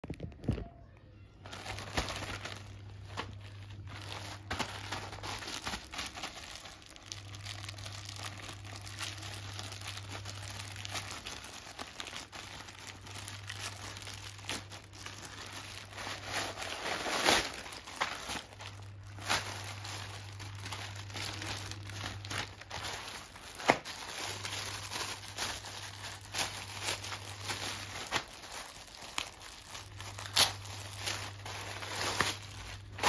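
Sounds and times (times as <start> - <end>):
plastic mailer crinkling and tearing: 0.0 - 33.0
plastic-wrapped package rustling: 0.0 - 33.0.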